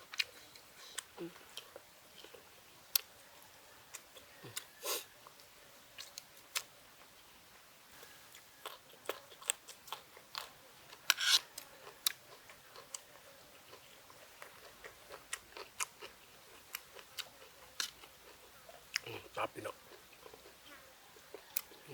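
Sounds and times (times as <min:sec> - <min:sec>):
person chewing food: 0:00.0 - 0:07.1, 0:08.0 - 0:21.9.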